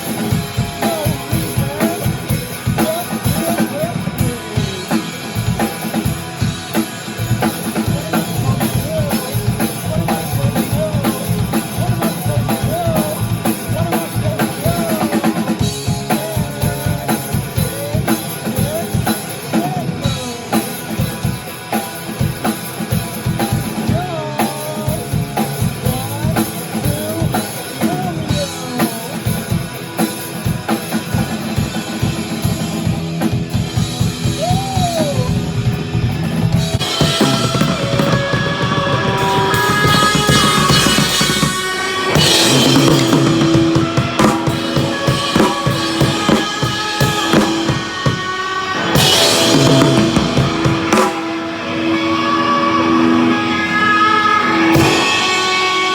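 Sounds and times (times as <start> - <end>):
drum kit fast beat: 0.0 - 52.0, 53.7 - 55.9
rock band playing: 0.0 - 55.9.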